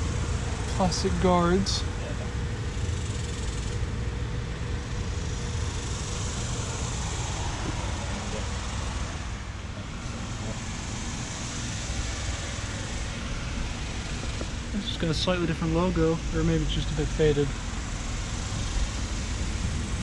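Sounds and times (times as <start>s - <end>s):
air conditioner units whirring: 0.0s - 20.0s.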